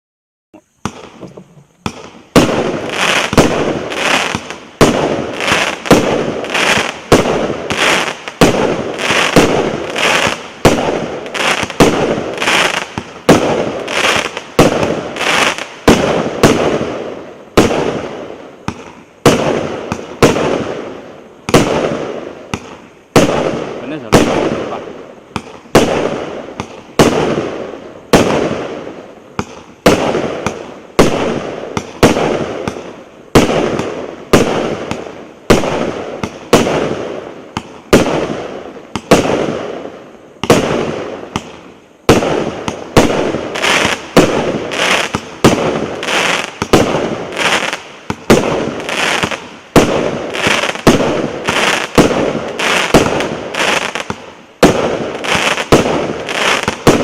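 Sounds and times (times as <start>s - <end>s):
firework bangs with crackling: 0.8s - 57.0s.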